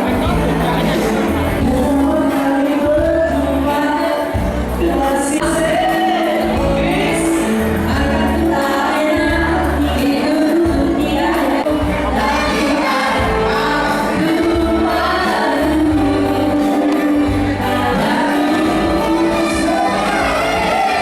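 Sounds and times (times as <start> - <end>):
steady bass: 0.0 - 3.8, 4.4 - 21.0
band playing: 0.0 - 21.0
backing voices singing: 1.0 - 21.0
woman singing: 1.6 - 21.0.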